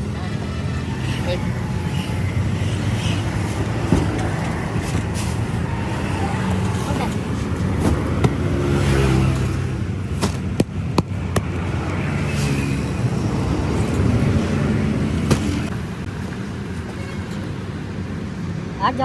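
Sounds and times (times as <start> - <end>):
vehicle engines passing: 0.0 - 19.0.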